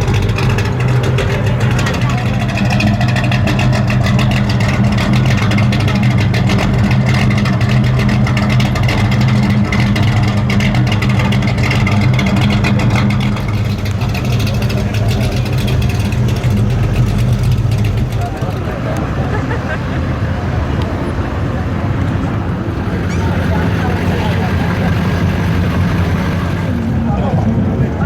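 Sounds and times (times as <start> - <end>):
car engine running at low revs: 0.0 - 28.0.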